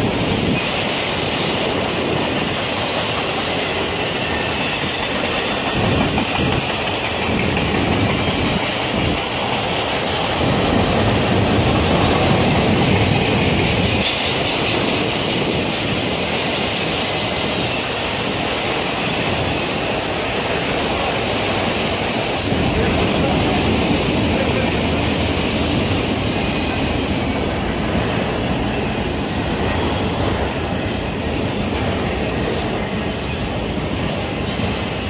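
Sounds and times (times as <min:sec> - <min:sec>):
train wheels rumbling on rails: 0:00.0 - 0:35.0
wheels clacking over rail joints: 0:00.0 - 0:35.0.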